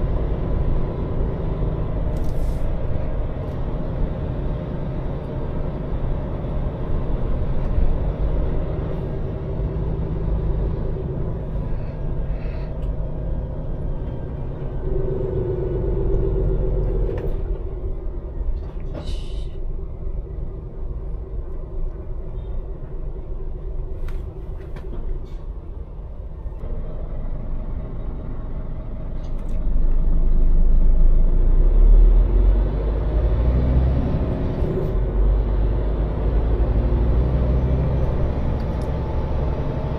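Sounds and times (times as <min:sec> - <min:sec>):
lorry diesel engine rumbling: 0:00.0 - 0:39.9.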